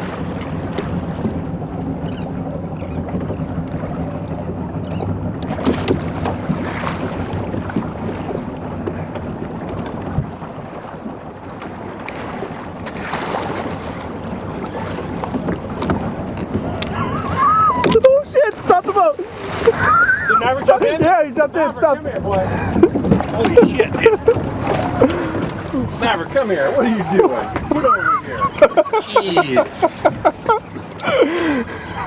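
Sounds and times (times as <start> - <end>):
boat engine running: 0.0 - 32.0
water rushing: 0.0 - 32.0
wind: 0.0 - 32.0.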